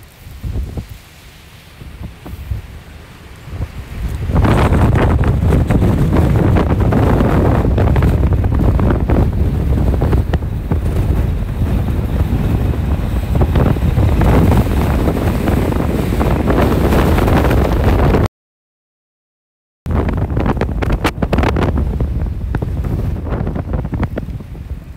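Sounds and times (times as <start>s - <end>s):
wind buffeting microphone: 0.0s - 18.3s, 19.9s - 24.9s.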